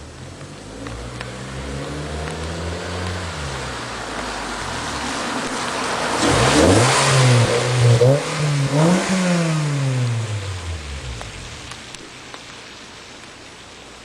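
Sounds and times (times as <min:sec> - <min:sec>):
car engine accelerating hard: 0:00.0 - 0:11.9.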